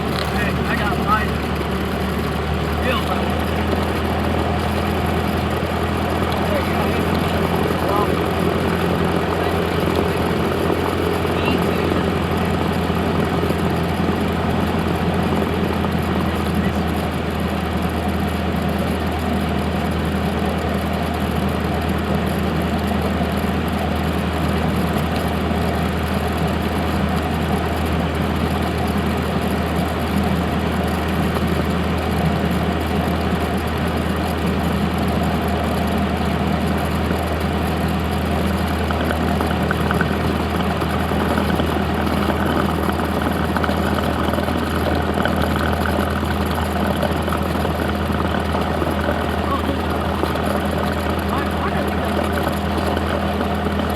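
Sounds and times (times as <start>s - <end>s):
propeller plane engine drone: 0.0s - 53.9s.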